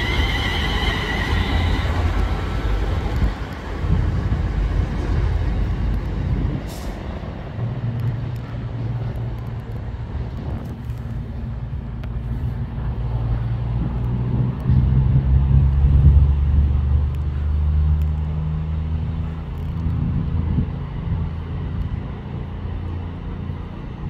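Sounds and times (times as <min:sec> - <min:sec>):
train engine drone: 0:00.0 - 0:24.0.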